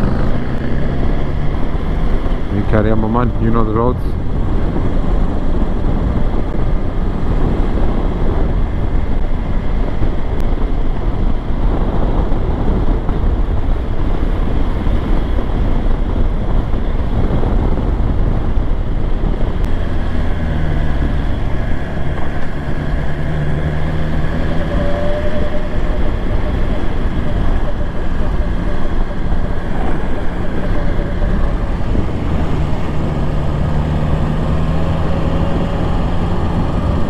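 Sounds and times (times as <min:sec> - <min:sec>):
motorcycle engine: 0:00.0 - 0:37.0
wind noise on microphone: 0:00.0 - 0:37.0.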